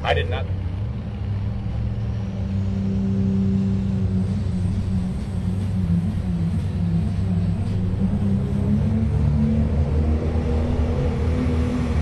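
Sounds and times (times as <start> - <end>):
diesel truck engine running hard: 0.0 - 12.0.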